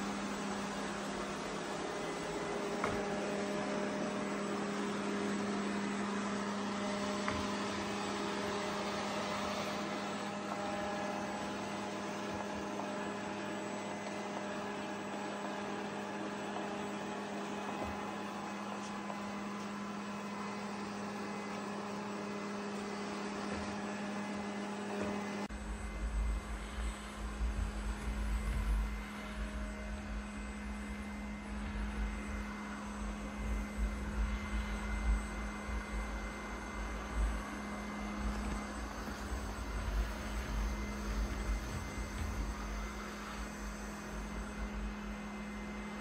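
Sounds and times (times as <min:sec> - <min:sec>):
robot vacuum motor humming: 0:00.0 - 0:46.0.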